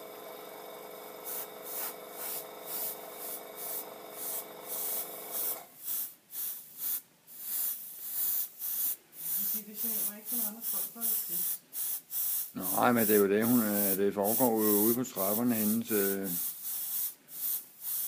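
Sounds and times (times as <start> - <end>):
airbrush spraying hiss: 1.0 - 18.0.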